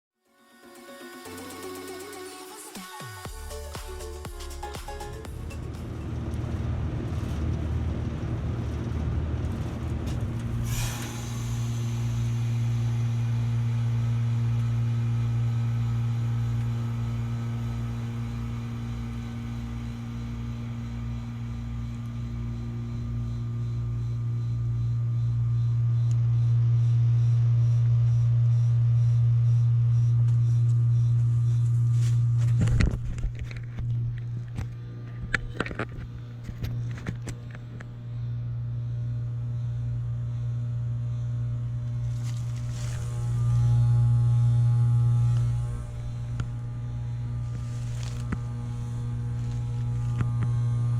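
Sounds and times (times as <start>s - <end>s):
heat pump compressor humming: 1.3s - 27.0s, 27.6s - 50.9s.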